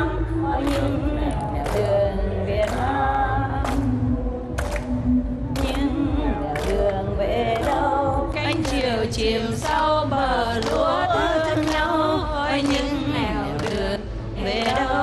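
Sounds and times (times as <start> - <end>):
group singing in unison: 0.0 - 15.0
hand claps: 0.5 - 15.0.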